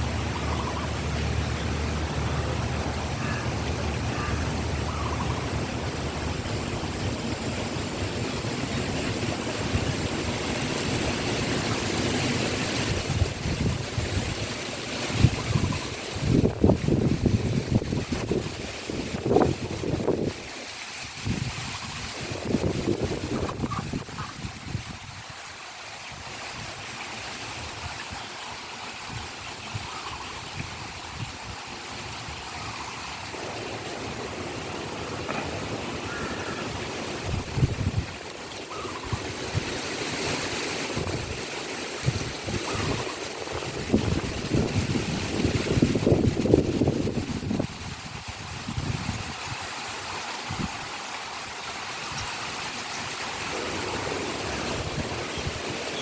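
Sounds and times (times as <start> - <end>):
wind buffeting microphone: 0.0 - 25.5, 26.1 - 56.0
heavy rain falling: 0.0 - 56.0.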